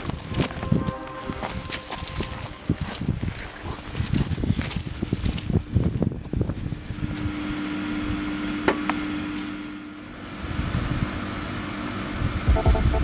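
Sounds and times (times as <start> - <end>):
electric train humming: 0.0 - 4.0, 5.4 - 13.0.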